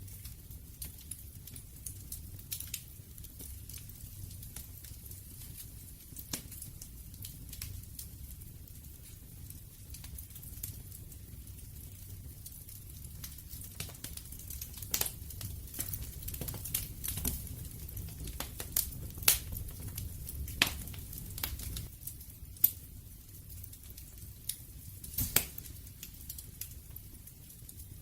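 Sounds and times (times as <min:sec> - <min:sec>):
low rumble of burning: 0:00.0 - 0:28.0
wood fire crackling: 0:00.0 - 0:28.0.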